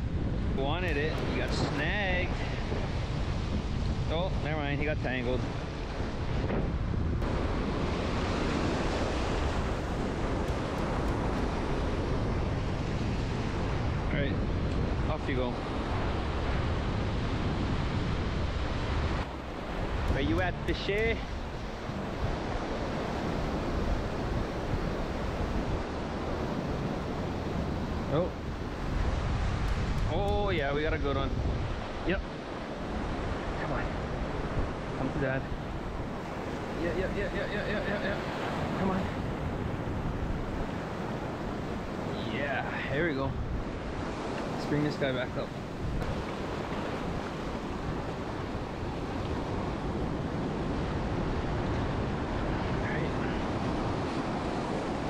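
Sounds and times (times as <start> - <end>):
ocean surf: 0.0 - 55.0
wind buffeting microphone: 0.0 - 55.0.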